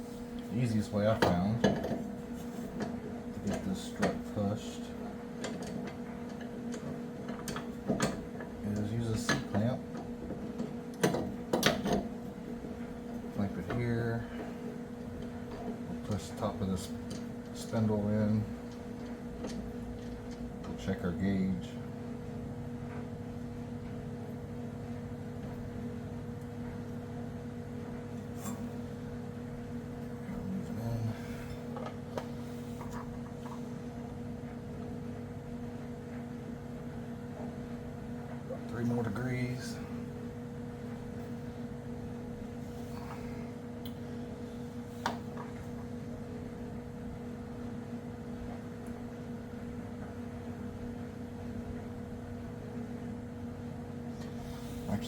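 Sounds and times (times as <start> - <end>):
low equipment hum: 0.0 - 55.0.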